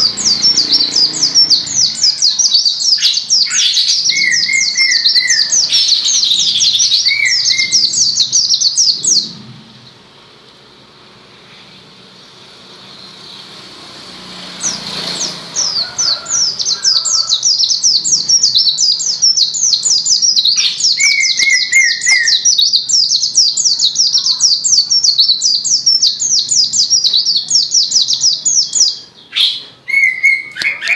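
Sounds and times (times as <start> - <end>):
bird singing high notes: 0.0 - 9.3, 14.7 - 30.9
low bird trill: 0.0 - 9.9, 14.7 - 30.9.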